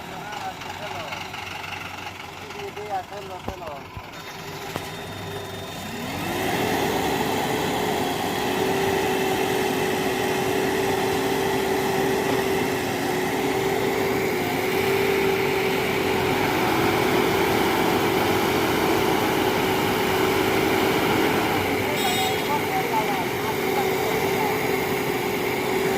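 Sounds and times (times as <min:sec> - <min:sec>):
diesel engine revving: 0:00.0 - 0:25.9.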